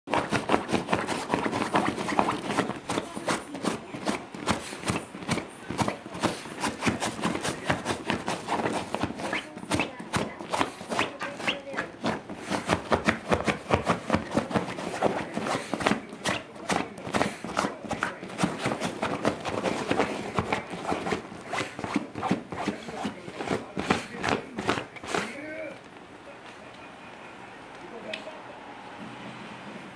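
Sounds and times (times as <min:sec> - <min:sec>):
dog scratching fabric bed: 0:00.1 - 0:25.8.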